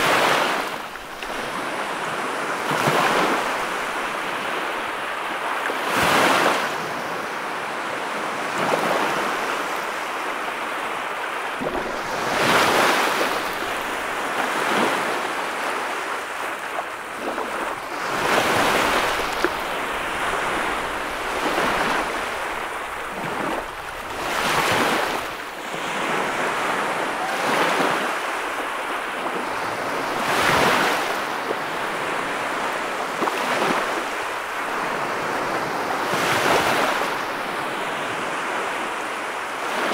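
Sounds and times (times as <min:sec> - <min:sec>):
waves washing onto sandy shore: 0:00.0 - 0:39.9.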